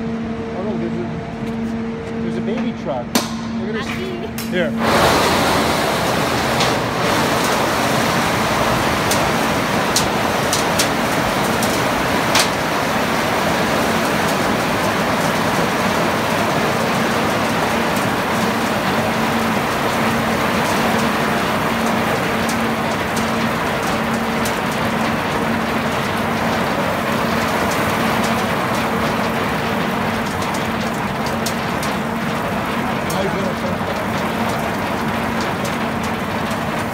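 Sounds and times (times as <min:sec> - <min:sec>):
engine hum: 0:00.0 - 0:36.9
olives pouring into hopper: 0:04.6 - 0:36.9.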